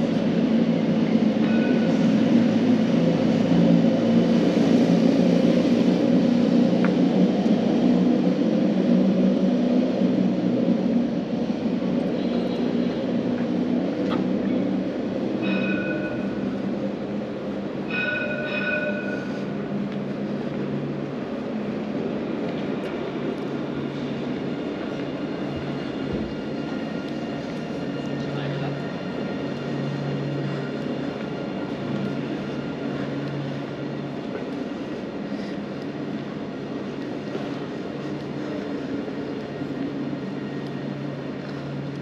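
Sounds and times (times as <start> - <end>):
tram rumbling: 0.0 - 42.0.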